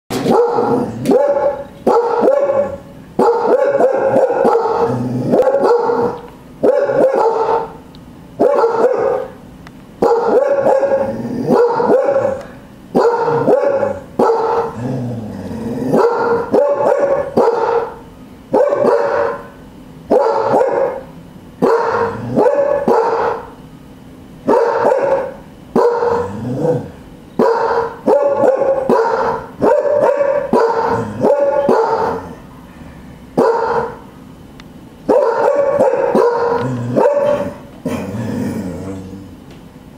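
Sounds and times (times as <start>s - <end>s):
dogs barking sharply: 0.1s - 9.4s, 10.0s - 14.8s, 15.9s - 23.6s, 24.4s - 26.3s, 27.4s - 32.3s, 33.4s - 34.1s, 35.0s - 38.0s.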